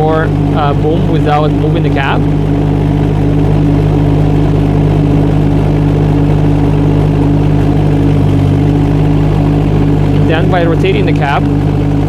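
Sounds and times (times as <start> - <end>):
diesel engine running: 0.0 - 12.0
hydraulic boom working: 0.0 - 12.0.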